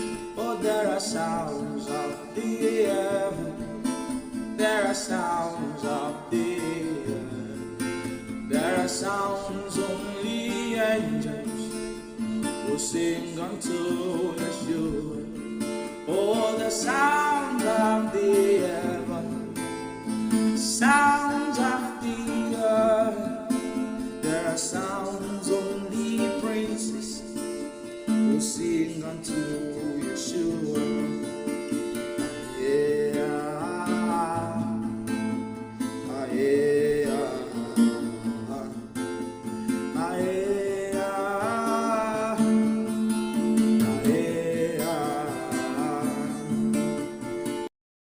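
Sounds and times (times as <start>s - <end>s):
person singing: 0.0s - 47.5s
acoustic guitar strumming: 0.0s - 47.7s.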